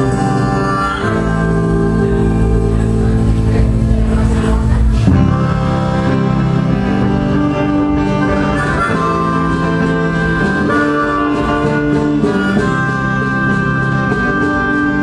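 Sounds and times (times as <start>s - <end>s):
band playing held melody: 0.0s - 15.0s.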